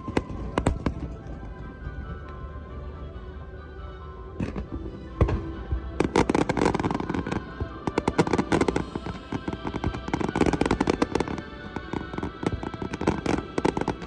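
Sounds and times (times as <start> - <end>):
fireworks bursting and crackling: 0.0 - 2.6, 4.4 - 14.0
music: 0.0 - 14.0.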